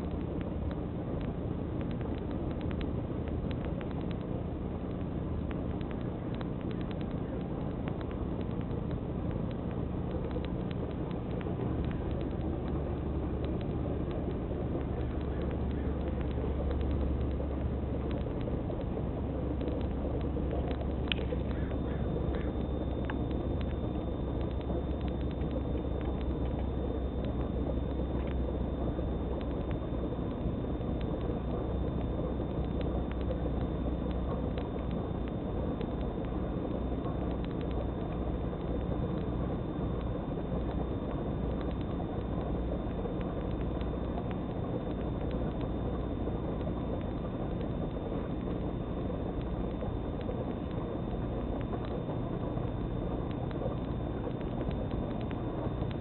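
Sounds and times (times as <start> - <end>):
faint clicks: 0.0 - 56.0.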